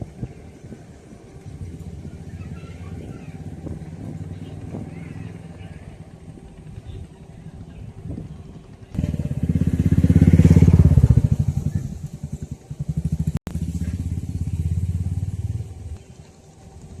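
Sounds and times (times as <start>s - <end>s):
engine chugging: 0.0s - 17.0s.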